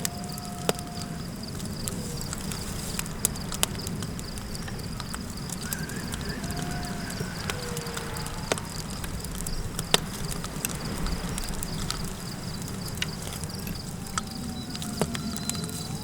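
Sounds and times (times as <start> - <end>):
campfire crackling and popping: 0.0 - 16.0
insects chirping: 0.0 - 16.0
wind rumble: 0.0 - 16.0.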